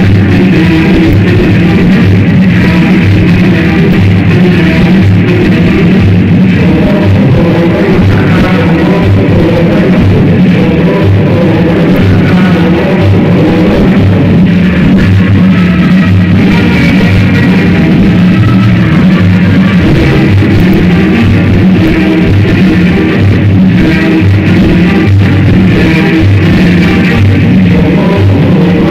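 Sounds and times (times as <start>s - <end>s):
loud music with pulsing bass: 0.0s - 28.9s.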